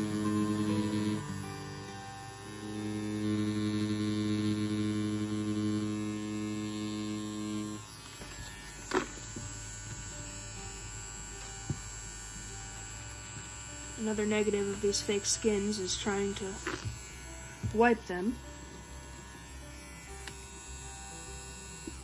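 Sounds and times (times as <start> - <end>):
tattoo machine humming: 0.0 - 22.0.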